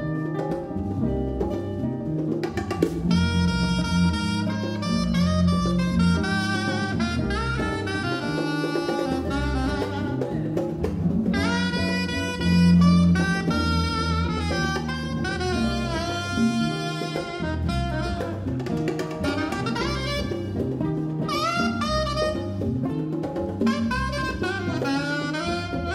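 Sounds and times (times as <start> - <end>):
acoustic guitar: 0.0 - 25.9
bass: 0.0 - 25.9
hand percussion: 0.0 - 25.9
saxophone melody: 0.0 - 25.9.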